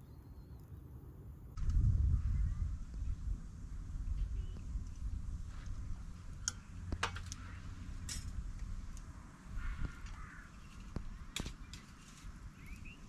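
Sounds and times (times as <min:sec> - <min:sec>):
low outdoor rumble: 0:01.3 - 0:13.0.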